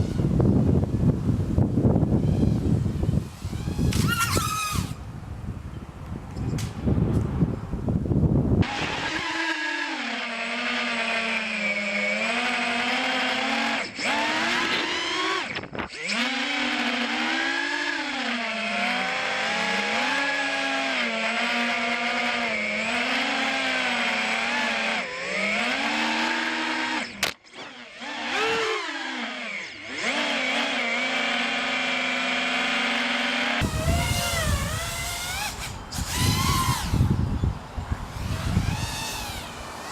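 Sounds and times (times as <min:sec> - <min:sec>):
quadcopter motors whining: 0:00.0 - 0:05.1, 0:08.6 - 0:39.9.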